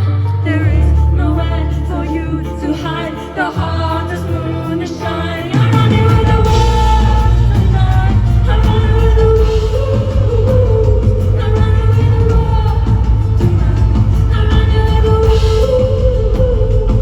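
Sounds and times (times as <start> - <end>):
live band music: 0.0 - 17.0
woman singing: 0.0 - 17.0.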